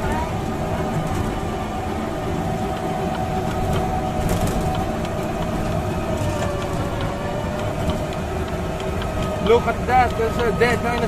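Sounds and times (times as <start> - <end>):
ride vehicle rumble: 0.0 - 11.0.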